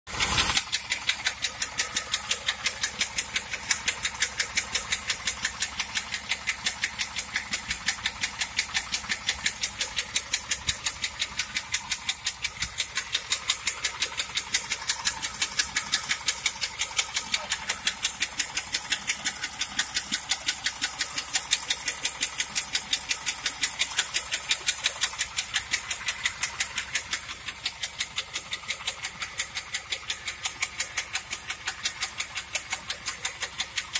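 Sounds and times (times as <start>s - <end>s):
car engine idling: 0.1s - 33.9s
rapid engine knock: 0.1s - 33.9s.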